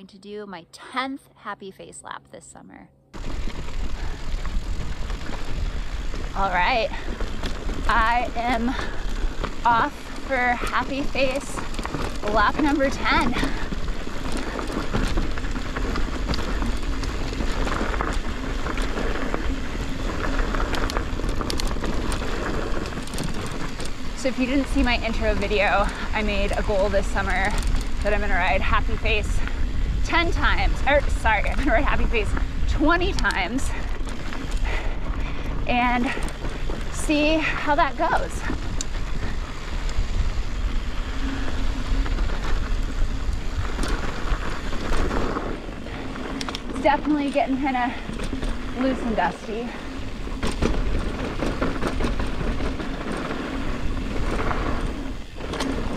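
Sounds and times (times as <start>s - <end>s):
tyres crunching over dirt: 3.1s - 55.9s
wind buffeting microphone: 3.1s - 55.9s
bike clicks and rattles: 3.2s - 55.9s.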